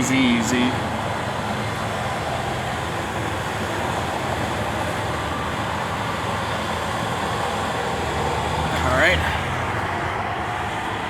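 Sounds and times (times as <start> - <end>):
boom lift engine humming: 0.0 - 11.0.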